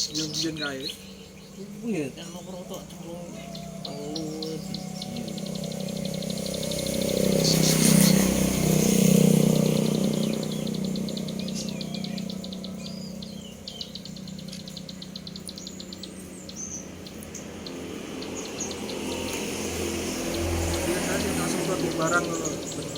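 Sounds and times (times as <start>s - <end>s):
motor vehicle droning: 0.0s - 22.9s
songbird rattling song: 0.0s - 22.9s.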